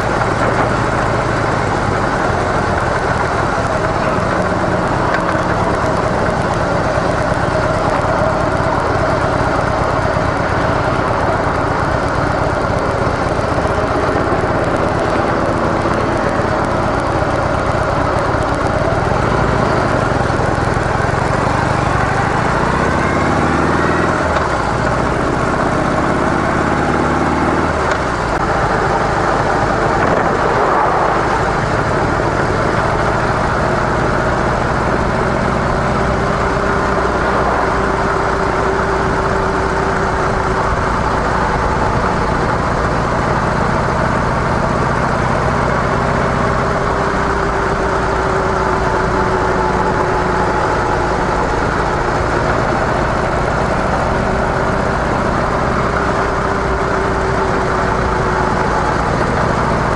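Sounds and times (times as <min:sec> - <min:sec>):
motorcycle engine while riding: 0:00.0 - 0:59.9.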